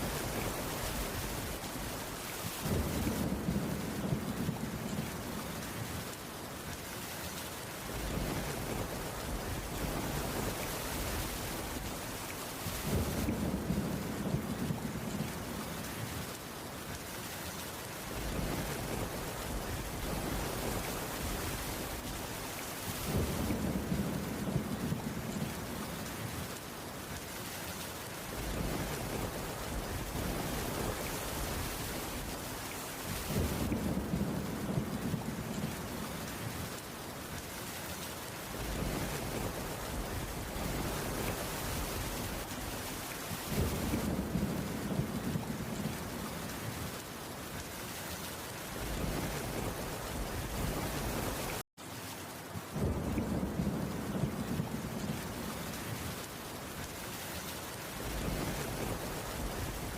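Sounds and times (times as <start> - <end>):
low rumble of thunder: 0.0 - 6.2, 7.8 - 16.4, 18.0 - 26.7, 28.2 - 37.4, 38.4 - 47.3, 48.6 - 51.6, 52.6 - 56.3, 57.9 - 59.9
heavy rain on a wooden roof: 0.0 - 59.9.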